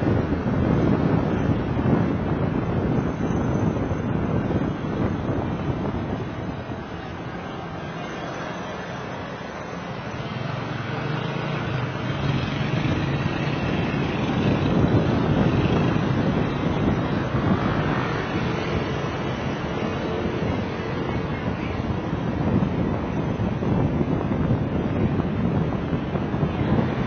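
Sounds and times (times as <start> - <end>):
road noise: 0.0 - 27.0
wind buffeting microphone: 0.0 - 27.0.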